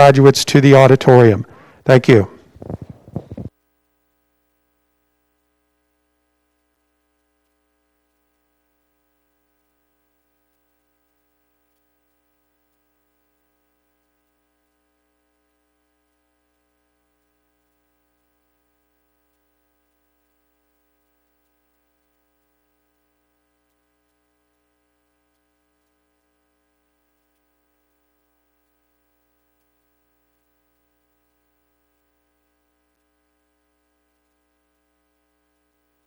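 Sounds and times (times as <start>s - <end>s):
faint electrical hum and hiss: 0.0s - 36.0s.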